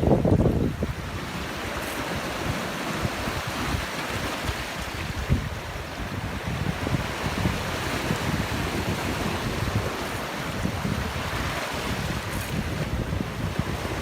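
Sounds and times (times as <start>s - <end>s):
sea noise: 0.0s - 14.0s
wind buffeting microphone: 0.0s - 14.0s.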